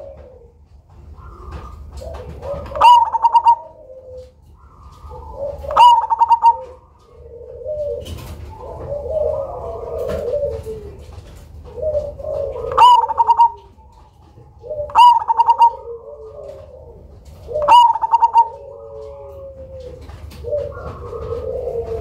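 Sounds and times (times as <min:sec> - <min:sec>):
dove singing loud phrases: 0:00.0 - 0:22.0
soft low dove cooing: 0:00.0 - 0:22.0.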